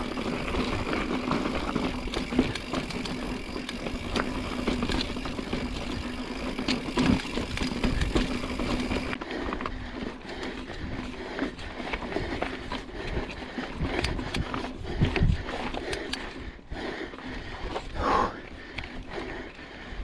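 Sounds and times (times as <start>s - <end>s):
bike rattling over rocks: 0.0s - 16.4s.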